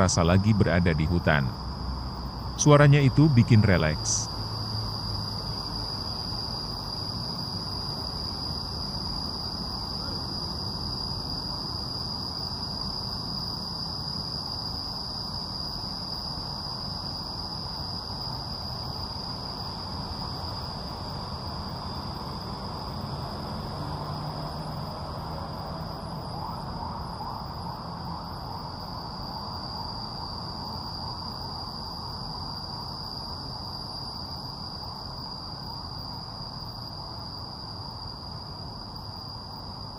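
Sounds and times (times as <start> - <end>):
faint low background noise: 0.0 - 39.9
insects droning: 0.0 - 39.9.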